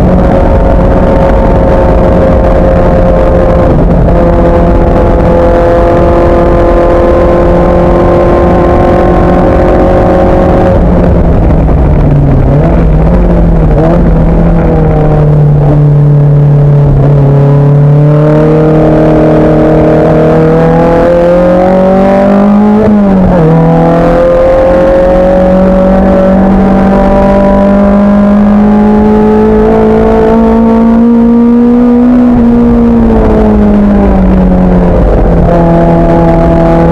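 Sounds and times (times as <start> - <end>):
racing car engine under load: 0.0 - 36.9.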